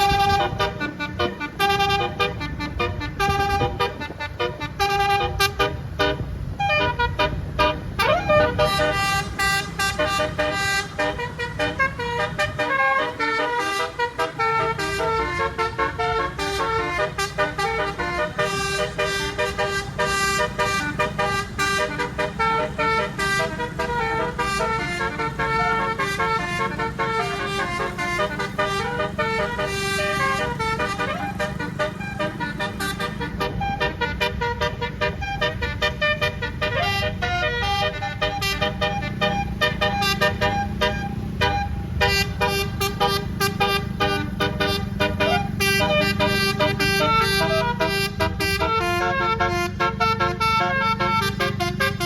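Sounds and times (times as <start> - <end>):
bus engine rumble: 0.0 - 52.0
bus horn tooting melody: 0.0 - 52.0.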